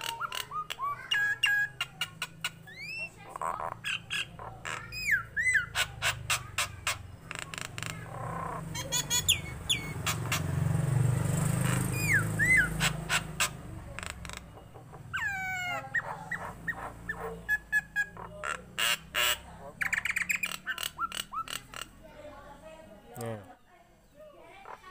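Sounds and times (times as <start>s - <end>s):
myna calling clicks and whistles: 0.0s - 10.5s, 11.6s - 21.9s.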